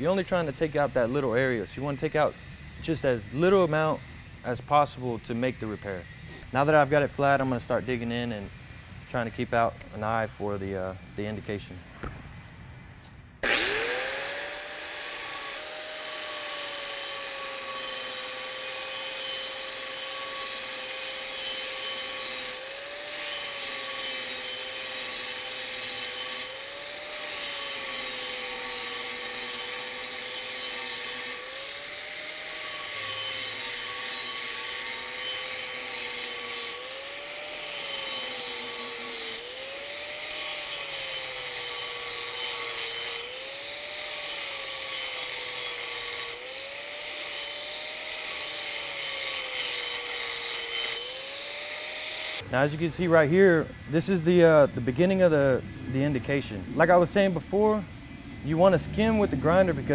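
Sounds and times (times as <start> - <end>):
angle grinder grinding steel: 0.0 - 11.7, 13.4 - 59.9.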